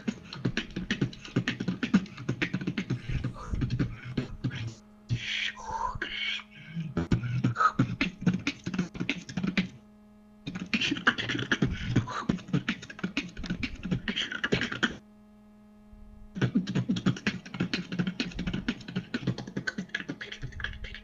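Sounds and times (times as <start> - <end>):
person beatboxing: 0.0 - 9.8, 10.5 - 15.0, 16.4 - 21.0.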